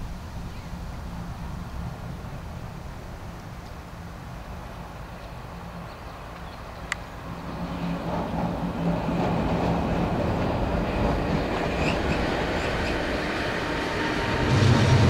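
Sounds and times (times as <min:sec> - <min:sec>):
locomotive traction hum: 0:00.0 - 0:15.0
locomotive wheels rumbling on rails: 0:00.0 - 0:15.0.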